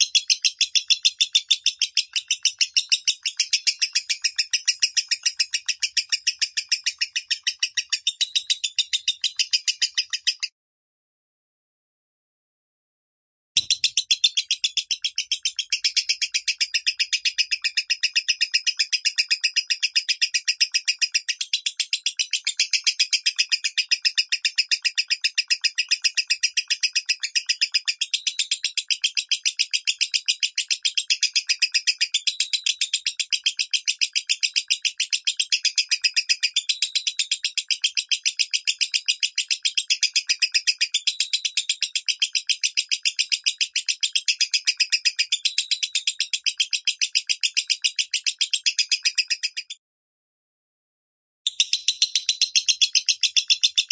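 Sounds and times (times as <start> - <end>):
lovebird chattering: 0.0 - 10.5, 13.6 - 49.8, 51.5 - 53.9.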